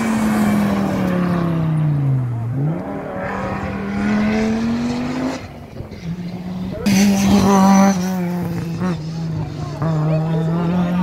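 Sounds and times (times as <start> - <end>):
rally car passing at speed: 0.0 - 11.0.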